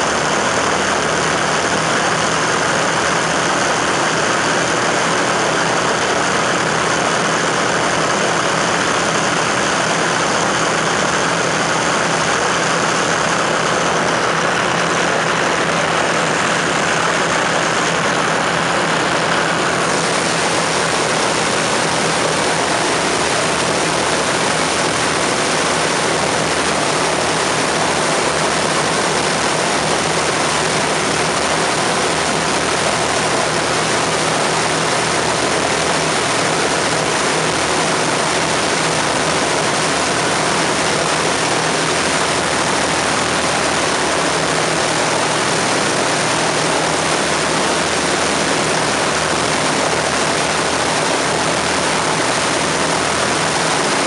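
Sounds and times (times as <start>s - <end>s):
propeller aircraft engines running: 0.0s - 54.0s.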